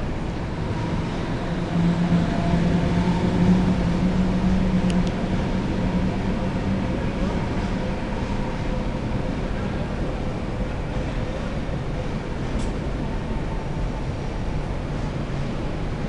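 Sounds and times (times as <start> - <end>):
electric locomotive running: 0.0 - 16.0.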